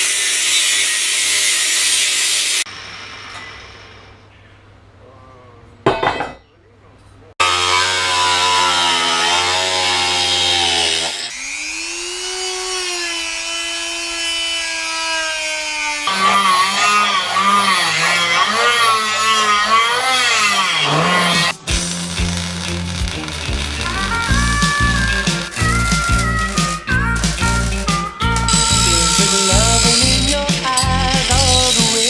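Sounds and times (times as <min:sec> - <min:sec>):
angle grinder cutting steel: 0:00.0 - 0:03.8, 0:07.4 - 0:32.0.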